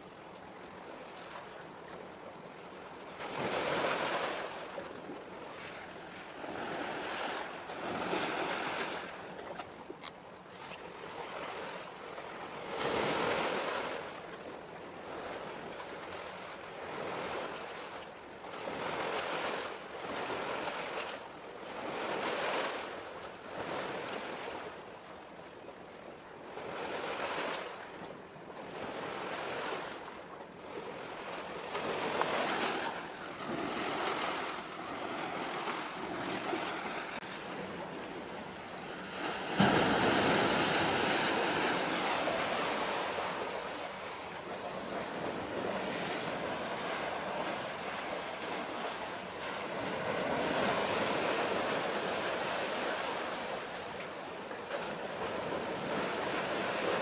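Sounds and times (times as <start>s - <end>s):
sea waves washing in: 0.0s - 25.2s, 26.5s - 57.0s.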